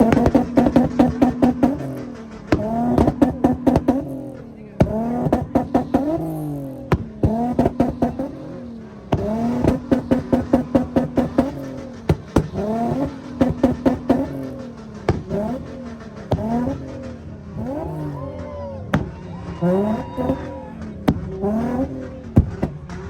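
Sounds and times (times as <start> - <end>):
car engine revving: 0.0 - 23.0
exhaust pops and bangs: 0.0 - 23.0.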